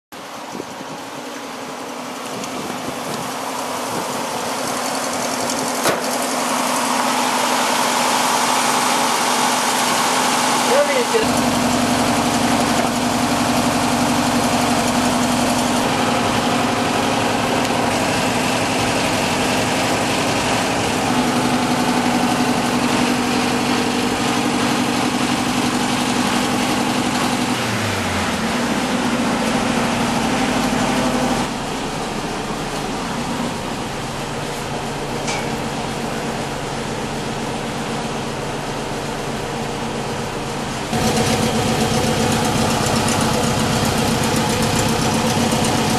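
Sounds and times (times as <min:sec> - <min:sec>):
van engine idling: 0:00.2 - 0:45.9.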